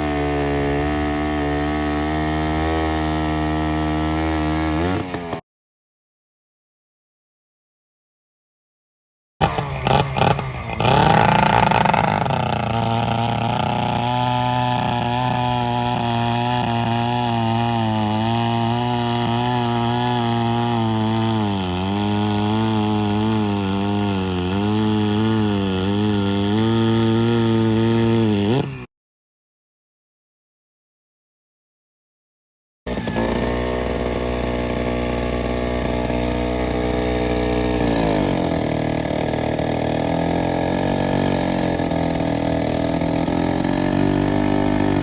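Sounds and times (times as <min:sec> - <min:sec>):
chainsaw engine running: 0:00.0 - 0:05.4, 0:09.4 - 0:28.9, 0:32.9 - 0:45.0.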